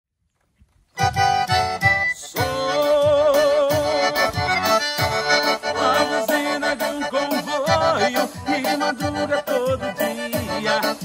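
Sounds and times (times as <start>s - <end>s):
accordion music: 1.0s - 11.0s
steady beat: 1.0s - 11.0s.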